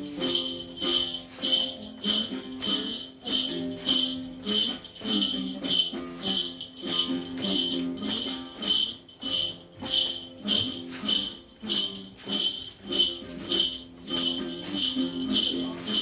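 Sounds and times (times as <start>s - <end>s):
low steady melody: 0.0s - 16.0s
metallic jingling beat: 0.0s - 16.0s.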